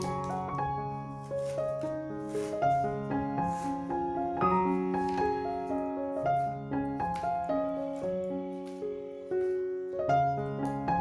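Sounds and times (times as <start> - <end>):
background piano music: 0.0 - 11.0.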